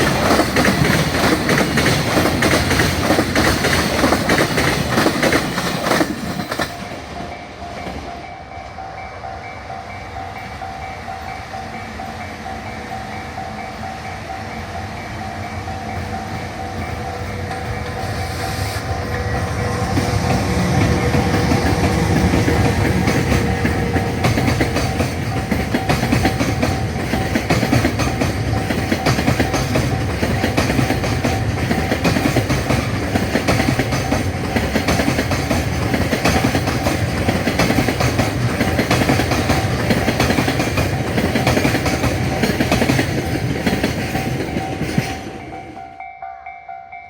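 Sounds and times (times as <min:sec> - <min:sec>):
train wheels clattering over rail joints: 0:00.0 - 0:08.1, 0:15.9 - 0:45.6
level-crossing warning bell ringing: 0:00.0 - 0:47.0.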